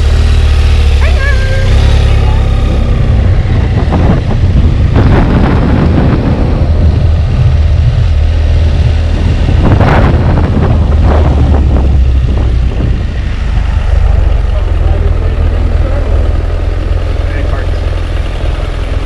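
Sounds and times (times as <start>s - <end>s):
wind buffeting microphone: 0.0s - 17.0s
motorcycle engine running: 0.0s - 19.0s.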